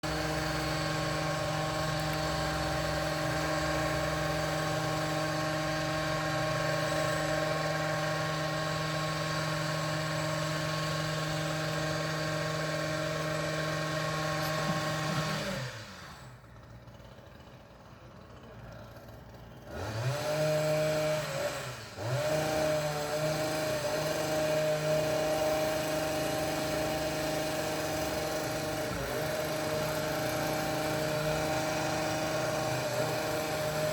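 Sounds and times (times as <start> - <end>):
two-stroke trimmer engine running: 0.0 - 33.9.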